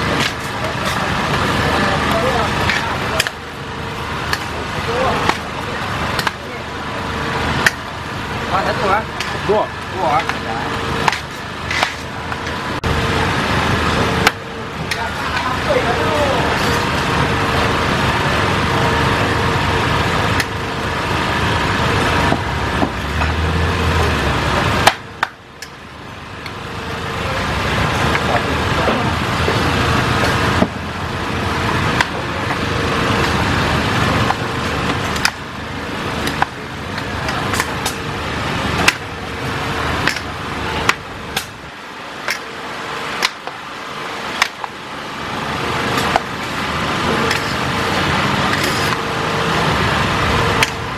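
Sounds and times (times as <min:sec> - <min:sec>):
steady roaring noise: 0:00.0 - 0:50.9.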